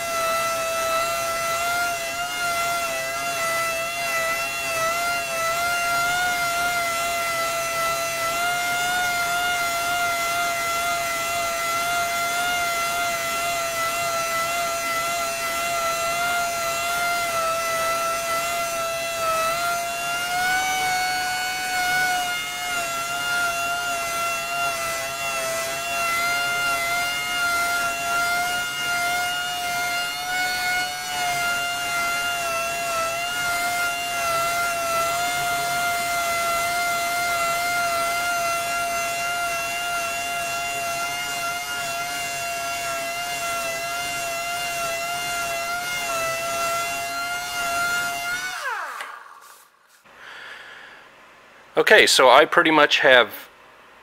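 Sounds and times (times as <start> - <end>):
orbital sander whining: 0.0 - 50.1.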